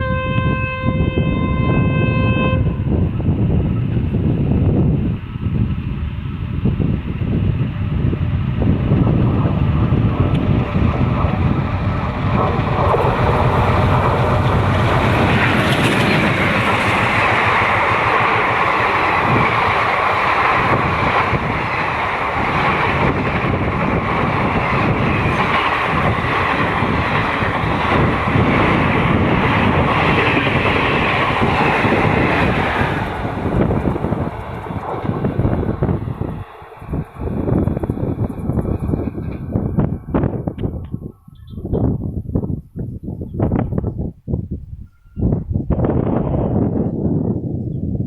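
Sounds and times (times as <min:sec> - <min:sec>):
train wheels rumbling on rails: 0:00.0 - 0:44.1.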